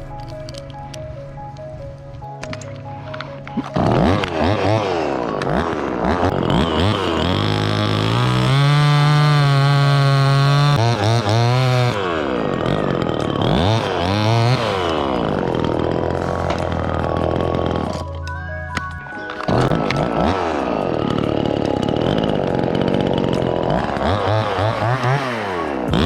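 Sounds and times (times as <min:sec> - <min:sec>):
chainsaw revving: 0:02.4 - 0:18.2, 0:19.2 - 0:26.0.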